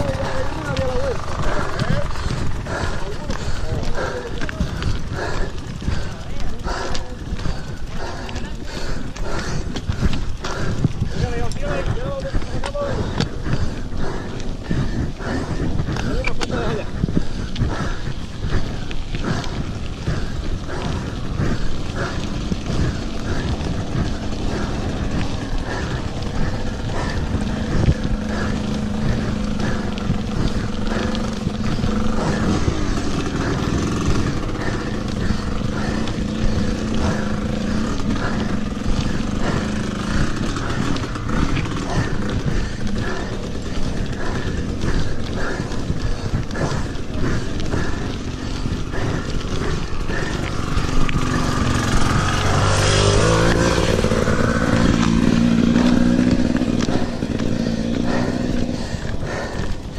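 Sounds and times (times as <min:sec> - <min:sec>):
bike rattling: 0:00.0 - 0:59.9
tyres crunching over gravel: 0:00.0 - 0:59.9
wind on microphone: 0:00.0 - 0:59.9.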